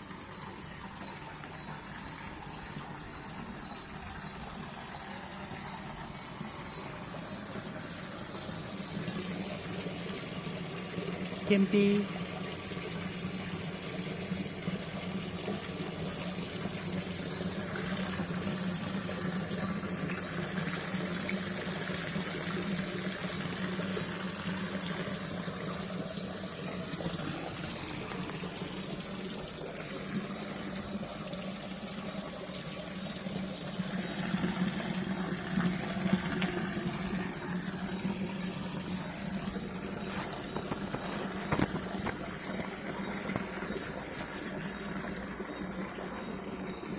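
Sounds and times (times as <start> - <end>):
waterfall splashing into pond: 0.0 - 46.9.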